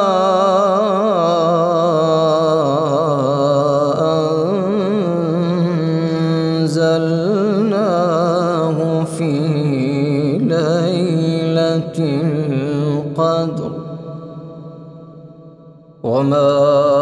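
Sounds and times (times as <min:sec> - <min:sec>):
man chanting melodically: 0:00.0 - 0:14.8, 0:16.0 - 0:17.0.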